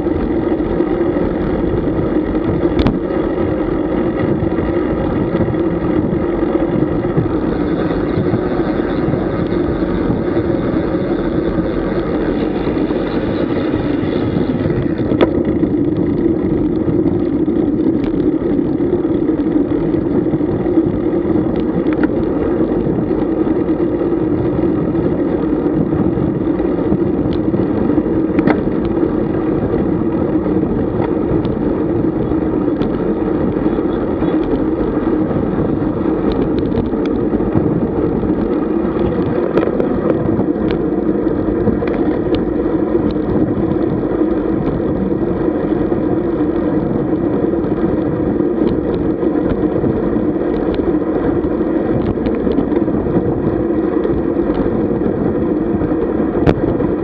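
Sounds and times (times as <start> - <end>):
bicycle tyre noise: 0.0 - 57.0
rushing wind: 0.0 - 57.0.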